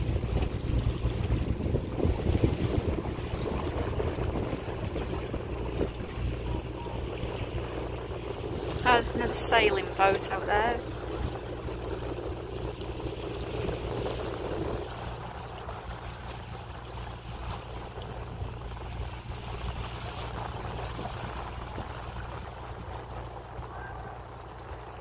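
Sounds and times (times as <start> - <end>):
boat engine droning: 0.0 - 25.0
water washing past: 0.0 - 25.0
wind on microphone: 0.0 - 25.0.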